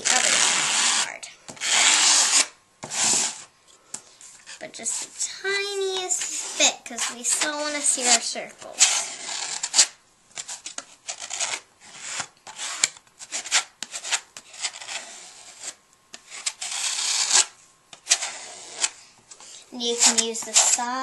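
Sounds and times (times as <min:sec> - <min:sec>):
card scraping paint on canvas: 0:00.0 - 0:03.5, 0:04.2 - 0:21.0.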